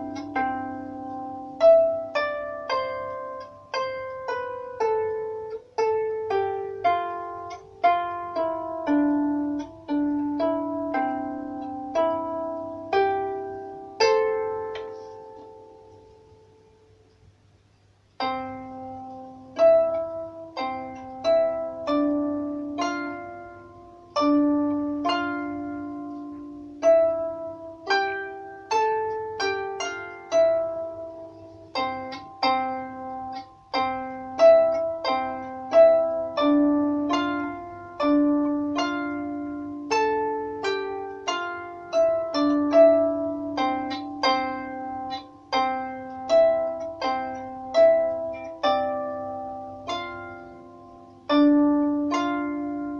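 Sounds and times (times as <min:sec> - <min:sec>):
harp melody: 0:00.0 - 0:17.2, 0:18.1 - 0:52.9.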